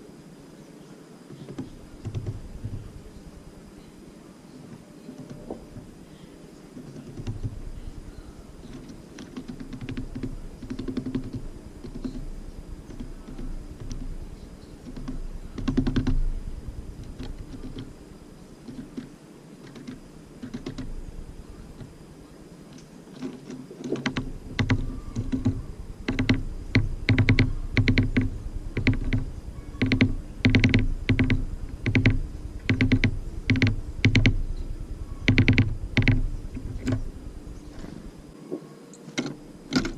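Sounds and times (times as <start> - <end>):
birds pecking at wooden feeder: 1.3 - 4.1, 4.7 - 38.3.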